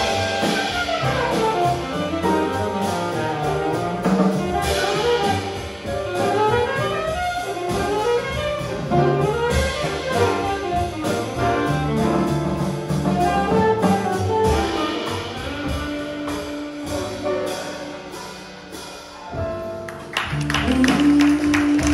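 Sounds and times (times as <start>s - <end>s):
saxophone melody: 0.0s - 18.5s
jazz band playing: 0.0s - 21.9s.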